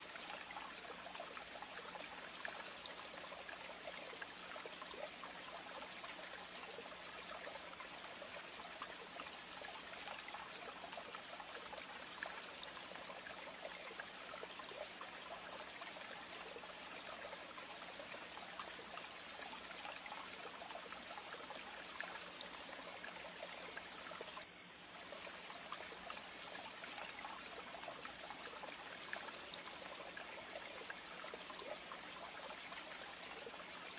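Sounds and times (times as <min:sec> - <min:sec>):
water trickling and dripping: 0:00.0 - 0:33.9.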